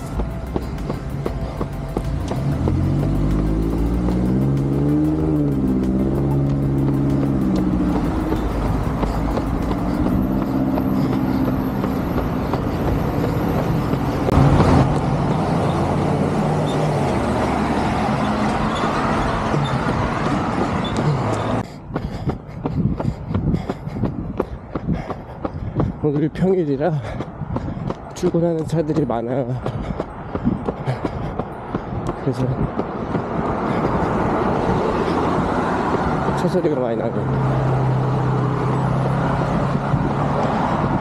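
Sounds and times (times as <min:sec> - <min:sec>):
cars passing: 0:00.0 - 0:41.0
tyre and road noise: 0:00.0 - 0:41.0.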